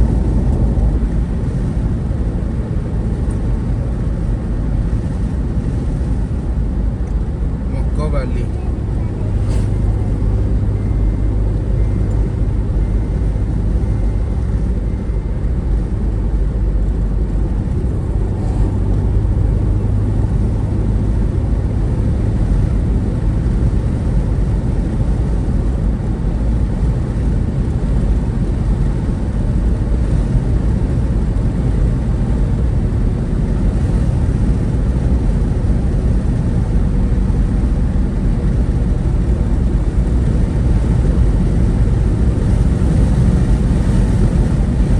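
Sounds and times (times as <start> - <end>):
road vehicle rumble at speed: 0.0 - 44.9.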